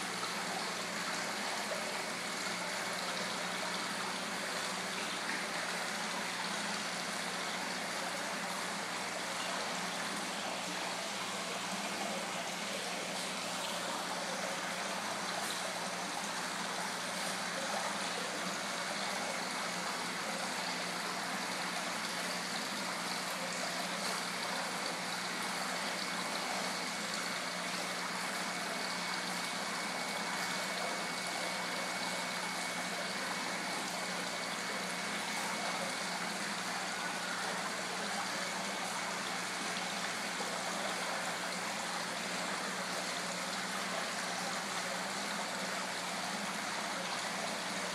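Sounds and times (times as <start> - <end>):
faint steady hum: 0.0 - 47.9
water splashing from pond waterfall: 0.0 - 47.9.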